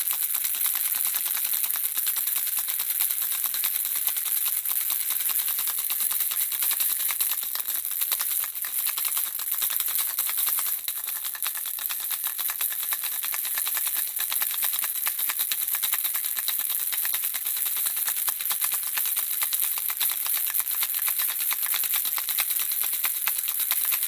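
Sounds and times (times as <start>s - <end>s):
baby rattle shaken: 0.0s - 24.0s.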